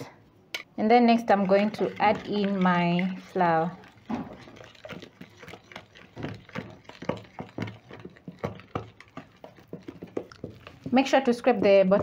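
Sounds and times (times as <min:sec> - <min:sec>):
wooden spoon scraping glass bowl: 0:01.1 - 0:12.0.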